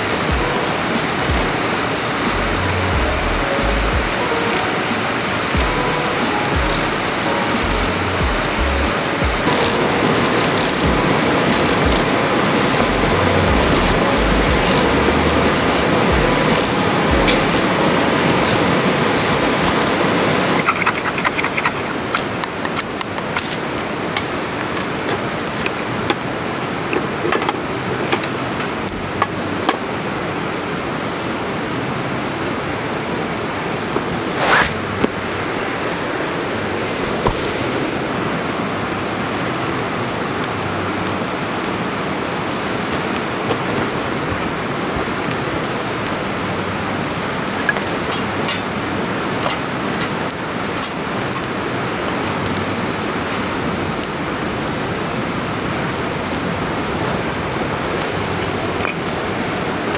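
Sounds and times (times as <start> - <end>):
campfire crackling and popping: 0.0 - 29.9, 41.5 - 59.9
steady rushing hiss: 0.0 - 59.9.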